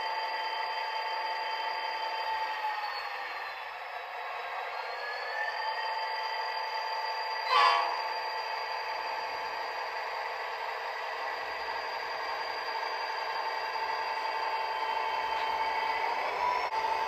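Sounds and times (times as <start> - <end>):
model trains whirring: 0.0 - 17.0.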